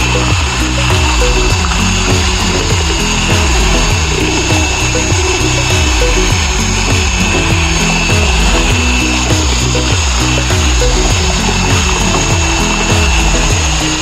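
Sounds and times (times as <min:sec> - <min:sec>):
background music with bass beat: 0:00.0 - 0:14.0
electric drill mixing mortar: 0:00.0 - 0:14.0.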